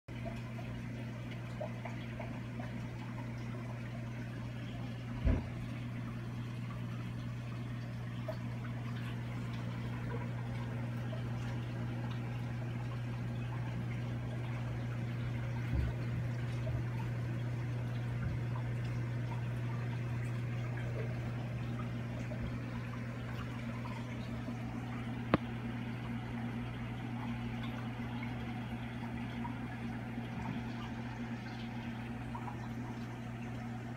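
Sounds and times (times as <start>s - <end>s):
aquarium pump hum: 0.1s - 33.9s
water flowing and trickling: 0.1s - 33.9s.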